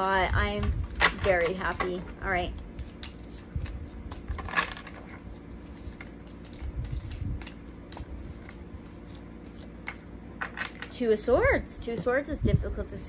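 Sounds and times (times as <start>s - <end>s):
cards being shuffled by hand: 0.4s - 10.9s.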